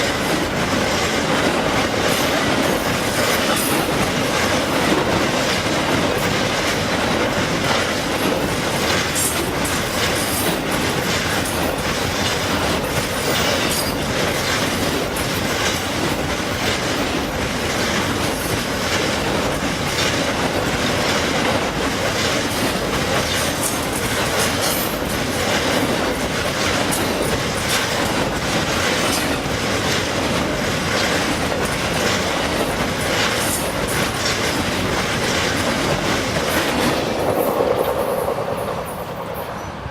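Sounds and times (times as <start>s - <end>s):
wheels clicking over rail joints: 0.0s - 39.7s
railroad cars rumbling on rails: 0.0s - 39.9s.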